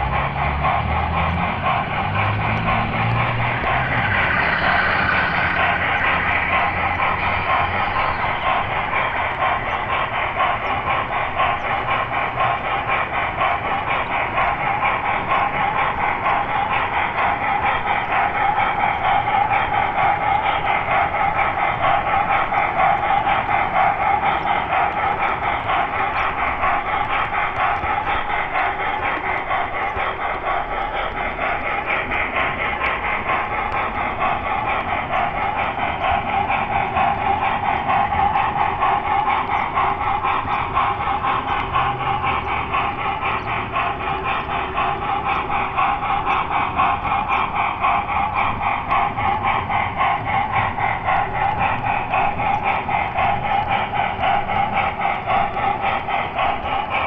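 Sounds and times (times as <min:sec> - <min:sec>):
model train wheels rattling: 0:00.0 - 0:57.0.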